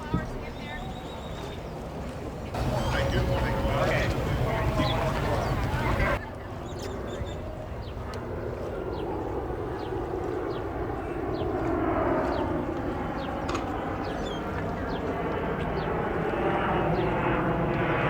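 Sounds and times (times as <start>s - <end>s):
airplane engine rumble: 0.0s - 18.0s.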